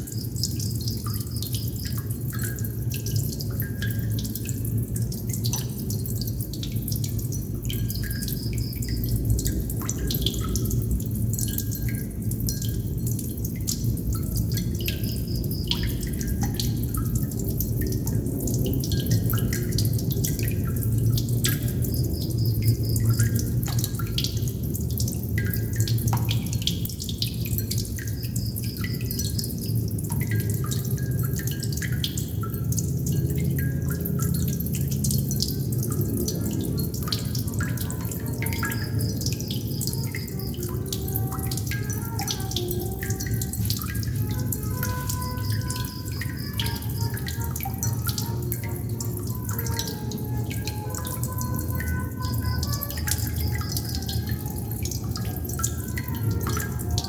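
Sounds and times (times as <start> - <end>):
water droplets dripping: 0.0 - 57.0.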